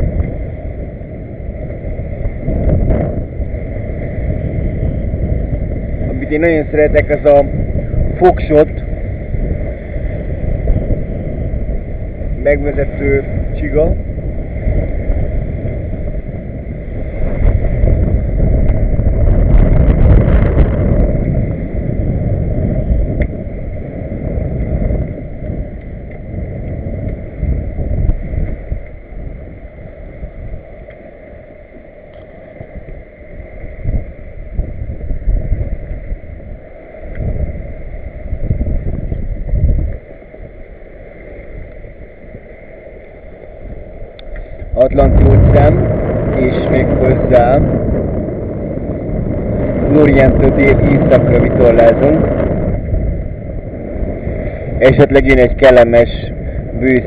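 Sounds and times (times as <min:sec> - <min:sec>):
water rushing along hull: 0:00.0 - 0:57.0
wind buffeting microphone: 0:00.0 - 0:57.0.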